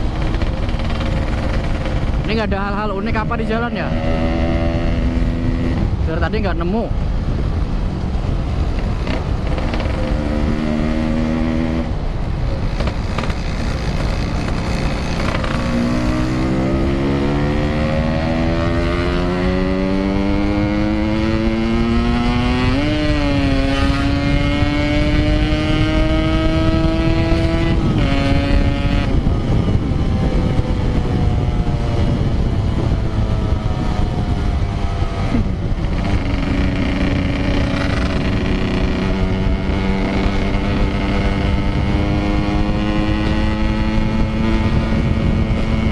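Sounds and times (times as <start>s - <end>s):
motorcycle engine revving: 0.0s - 6.4s, 7.3s - 45.9s
wind and road noise: 0.0s - 45.9s.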